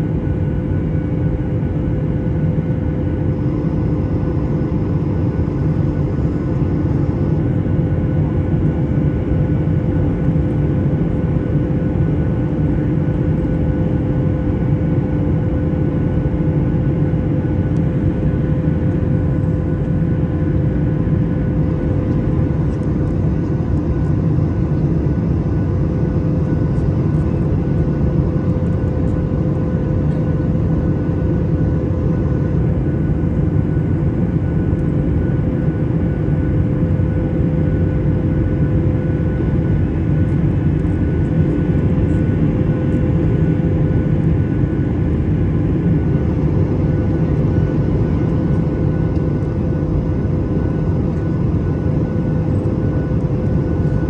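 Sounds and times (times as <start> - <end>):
jet engine roar in cabin: 0.0 - 54.0.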